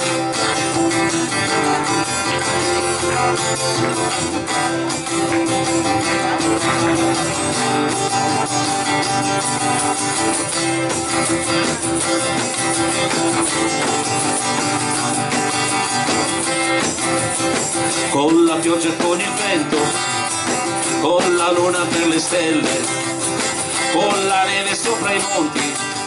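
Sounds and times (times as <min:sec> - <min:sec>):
acoustic guitars strumming: 0:00.0 - 0:26.0.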